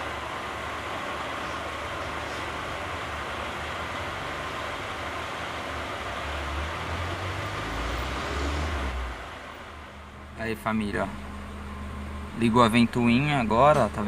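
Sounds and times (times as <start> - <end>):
car engine idling: 0.0 - 8.1, 8.7 - 14.0
radiator fan whirring: 0.0 - 8.1, 8.7 - 14.0.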